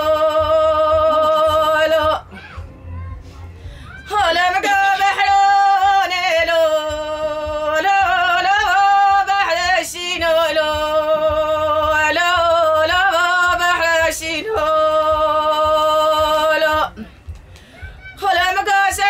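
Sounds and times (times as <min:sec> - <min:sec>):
woman singing unaccompanied: 0:00.0 - 0:02.4, 0:03.9 - 0:17.2, 0:18.2 - 0:19.0.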